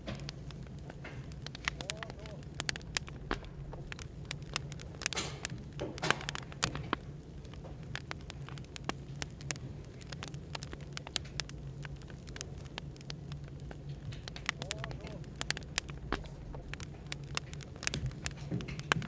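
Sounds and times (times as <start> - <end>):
cafe background hum: 0.0 - 19.0
hissing flare: 0.0 - 19.0
wood fire crackling: 0.0 - 19.0.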